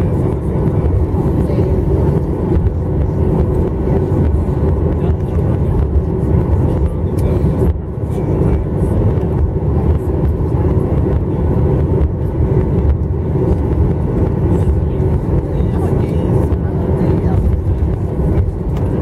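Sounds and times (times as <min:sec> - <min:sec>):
jet engines idling: 0:00.0 - 0:19.0
low rumble of rolling airliner: 0:00.0 - 0:19.0.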